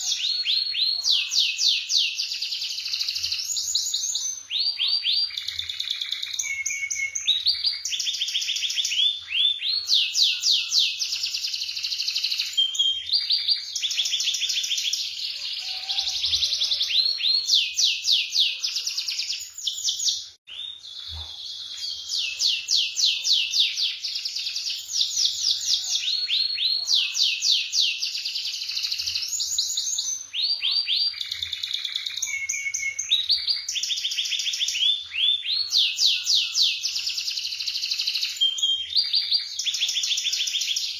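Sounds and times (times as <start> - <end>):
canary singing rolling trills: 0.0 - 40.9.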